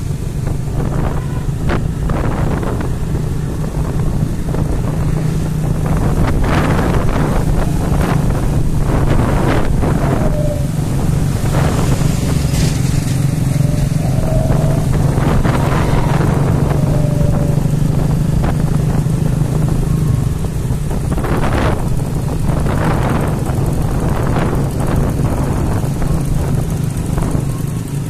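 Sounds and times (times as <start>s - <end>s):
motorcycle engines running: 0.0s - 28.0s
wind buffeting microphone: 0.0s - 28.0s.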